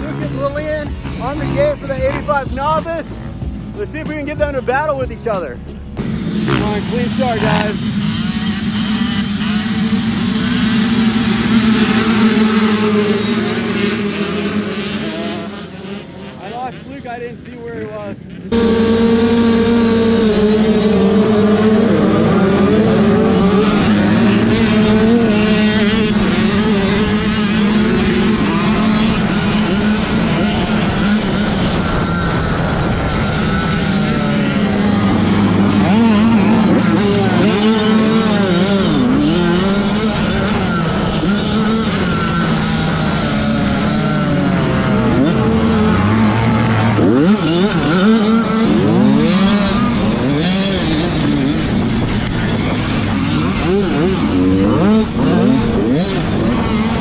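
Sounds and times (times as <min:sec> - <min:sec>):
motocross bikes racing: 0:00.0 - 0:57.0.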